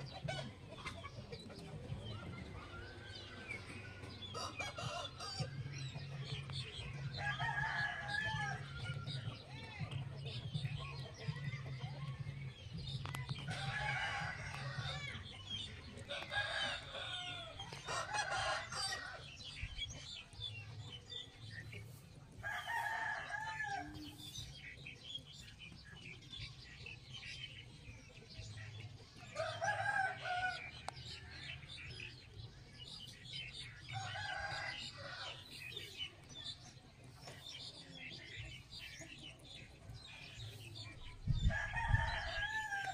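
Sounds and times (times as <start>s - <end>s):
chickens calling: 0.0s - 42.9s.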